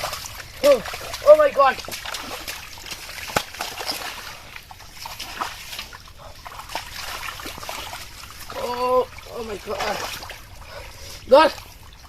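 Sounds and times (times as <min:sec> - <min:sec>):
hands splashing in water: 0:00.0 - 0:10.4.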